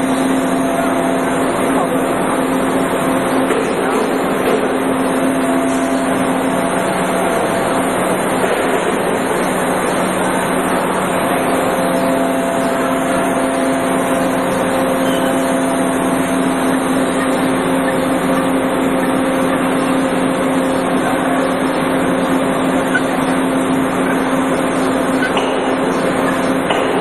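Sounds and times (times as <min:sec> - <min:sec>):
factory machine noise: 0:00.0 - 0:27.0.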